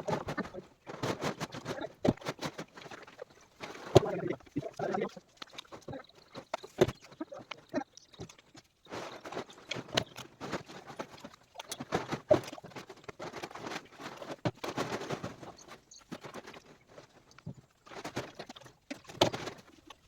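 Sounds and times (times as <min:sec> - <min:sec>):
chicks pecking and scratching: 0:00.0 - 0:20.0.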